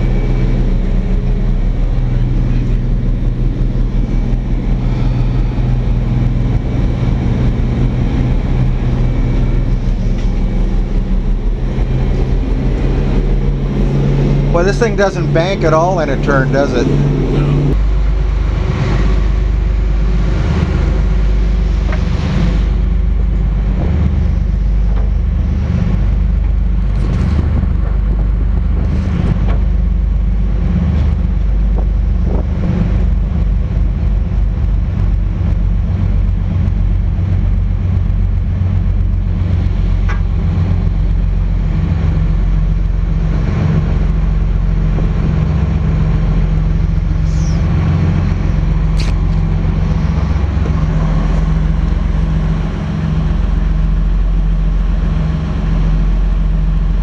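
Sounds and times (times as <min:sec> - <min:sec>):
marine diesel engines droning: 0:00.0 - 0:57.0.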